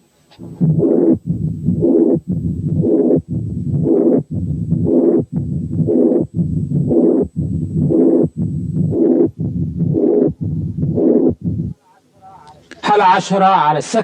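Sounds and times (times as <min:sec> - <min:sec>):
heartbeat with murmurs: 0:00.4 - 0:12.5.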